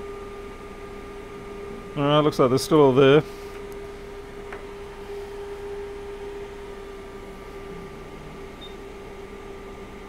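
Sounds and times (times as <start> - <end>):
electrical equipment humming: 0.0 - 10.0.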